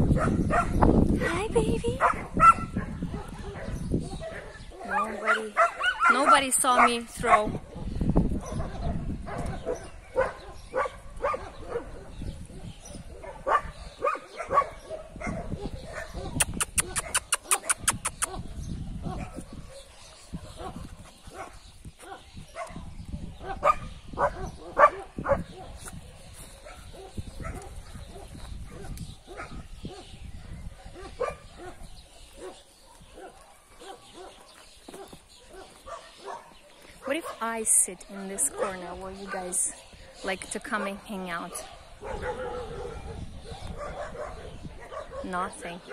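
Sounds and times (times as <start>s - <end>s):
dogs barking and yipping: 0.0s - 45.9s.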